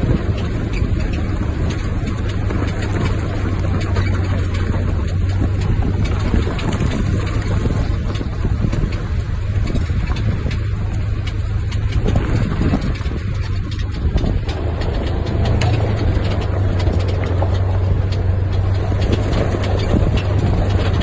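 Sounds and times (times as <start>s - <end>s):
small clicks and rattles: 0.0s - 21.0s
vehicle engine running at low revs: 0.0s - 21.0s.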